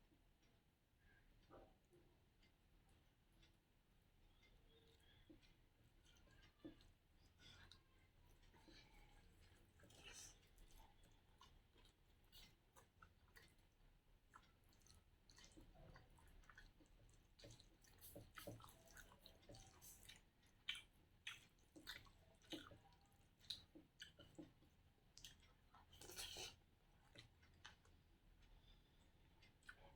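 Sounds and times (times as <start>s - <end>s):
person chewing food: 4.3s - 29.9s.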